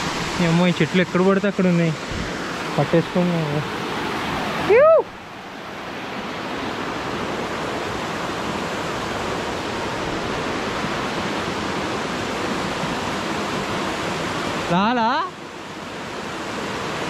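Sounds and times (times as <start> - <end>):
stream cascading over rocks: 0.0 - 17.0.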